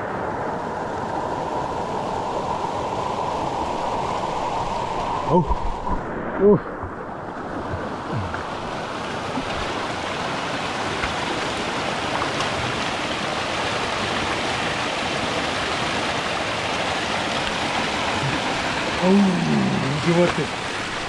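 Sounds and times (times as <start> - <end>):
stream water rushing and splashing: 0.0 - 21.0.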